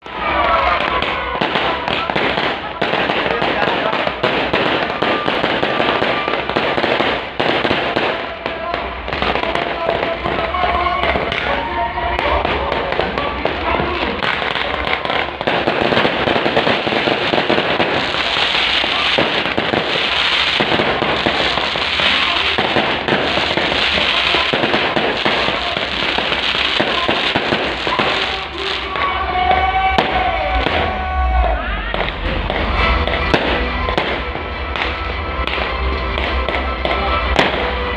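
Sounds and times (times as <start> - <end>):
fireworks crackling: 0.0 - 37.9
music: 0.0 - 37.9.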